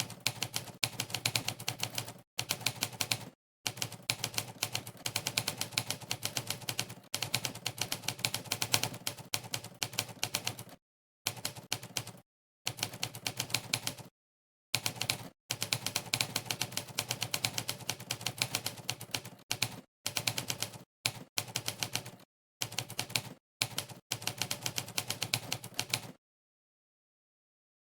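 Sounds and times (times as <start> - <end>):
fast typing on keyboard: 0.0 - 14.1, 14.8 - 26.2.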